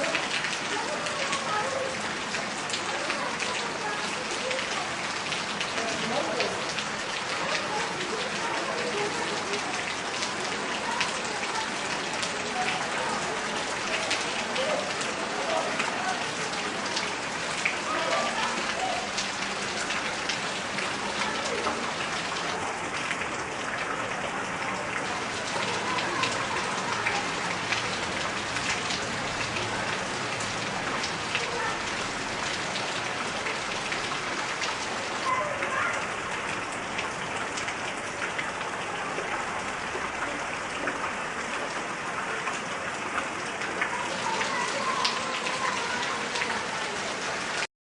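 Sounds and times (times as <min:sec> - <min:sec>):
heavy rain on leaves: 0:00.0 - 0:47.7.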